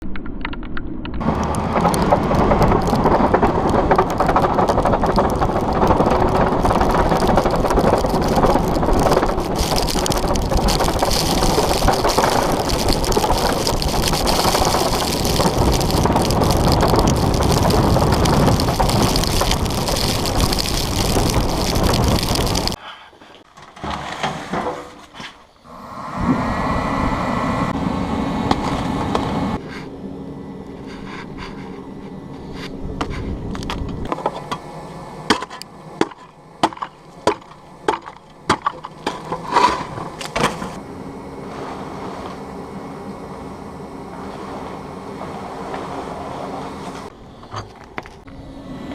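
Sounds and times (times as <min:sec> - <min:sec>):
engine hum: 0:00.0 - 0:22.8, 0:25.6 - 0:48.9
snowplow blade scraping ice: 0:01.2 - 0:22.8, 0:25.8 - 0:30.0, 0:30.8 - 0:48.9.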